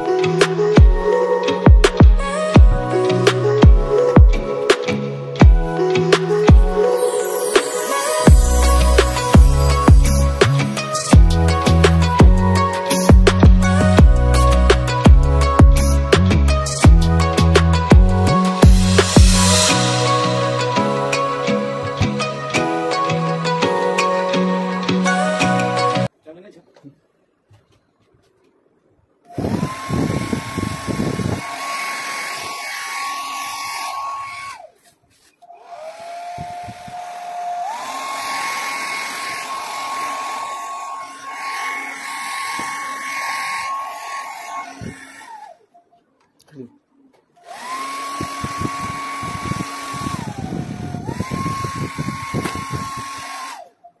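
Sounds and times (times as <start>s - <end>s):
hair dryer running: 0.7s - 23.1s, 29.3s - 34.7s, 35.4s - 45.6s, 47.4s - 53.7s.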